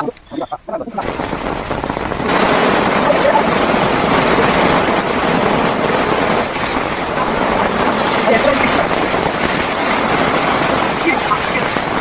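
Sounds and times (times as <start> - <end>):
heavy rain on plastic shelter: 0.0 - 12.0.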